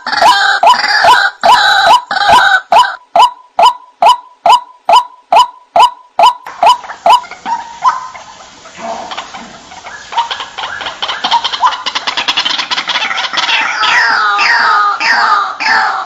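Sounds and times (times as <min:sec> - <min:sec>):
waterhen calling: 0:00.0 - 0:16.0.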